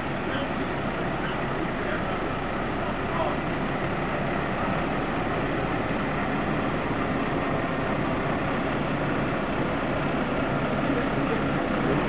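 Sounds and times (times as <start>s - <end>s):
lorry diesel engine running: 0.0s - 12.0s.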